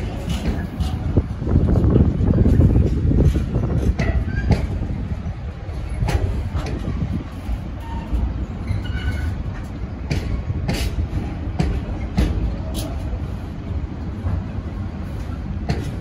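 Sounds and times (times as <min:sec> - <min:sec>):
train wheel clacks: 0:00.0 - 0:13.2, 0:14.0 - 0:16.0
freight train wagons rolling past: 0:00.0 - 0:16.0.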